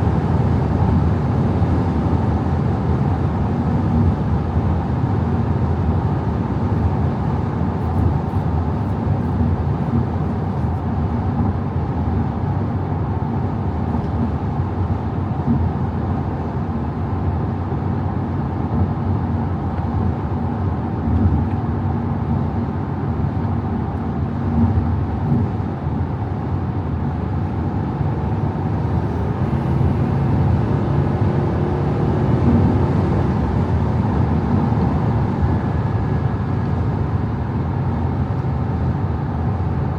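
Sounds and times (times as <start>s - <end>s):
diesel car engine running: 0.0s - 39.9s
road and wind noise: 0.0s - 39.9s.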